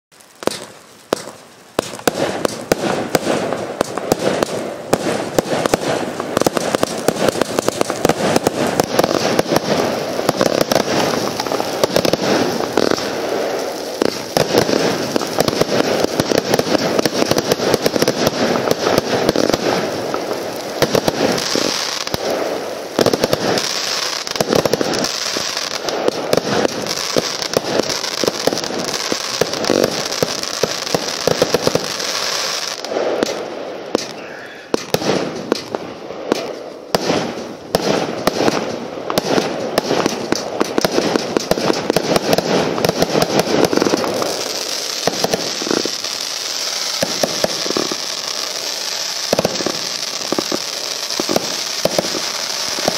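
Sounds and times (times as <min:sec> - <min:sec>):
firework hiss: 0:00.1 - 0:52.9
firework launches and bursts: 0:00.2 - 0:52.9.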